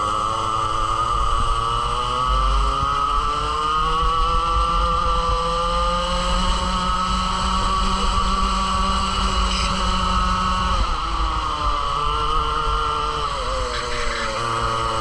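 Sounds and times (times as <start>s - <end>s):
two-stroke kart engine revving: 0.0s - 15.0s.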